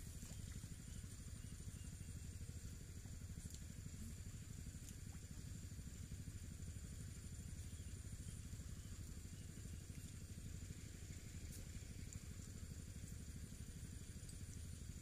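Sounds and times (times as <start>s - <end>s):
small engine idling: 0.0s - 15.0s.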